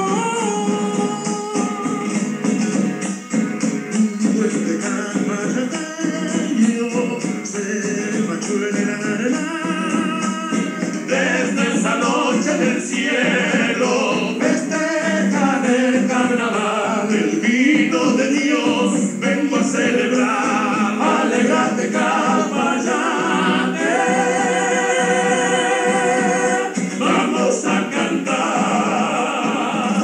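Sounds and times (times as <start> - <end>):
male vocal group singing: 0.0 - 2.3, 3.9 - 30.0.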